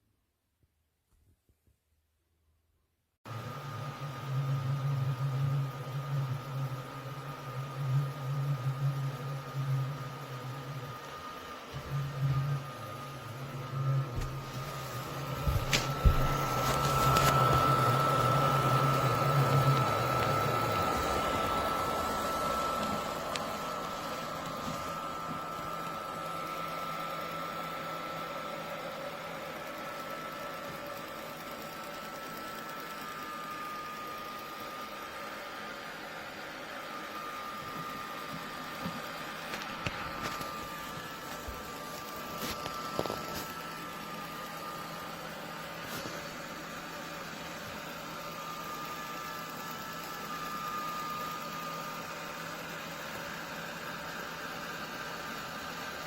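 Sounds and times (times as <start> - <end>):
robot vacuum fan whining: 3.3 - 56.0.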